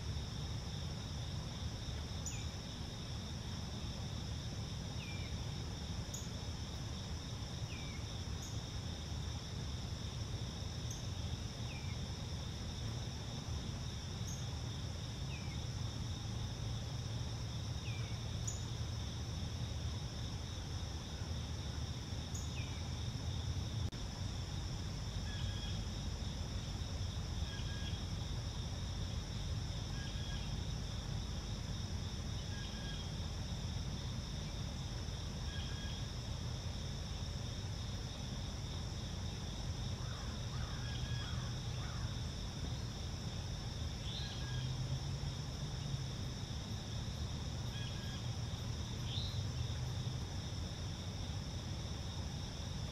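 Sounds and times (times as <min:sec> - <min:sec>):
crickets and insects trilling: 0:00.0 - 0:52.9
low steady rumble: 0:00.0 - 0:52.9.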